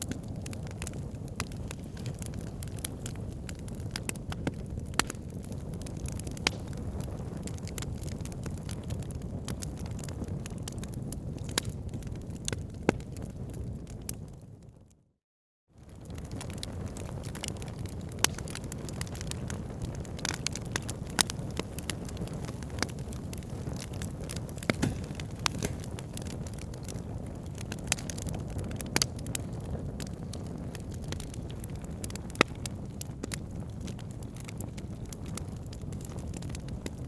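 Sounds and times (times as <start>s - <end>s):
fire crackling and popping: 0.0s - 14.6s, 15.8s - 37.0s
low rumble of flames: 0.0s - 15.0s, 15.8s - 37.0s.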